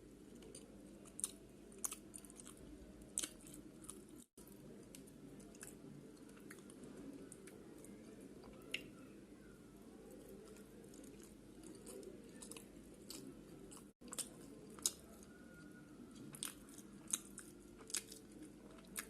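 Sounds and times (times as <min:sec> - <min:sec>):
chewing crunchy food: 0:00.2 - 0:19.0.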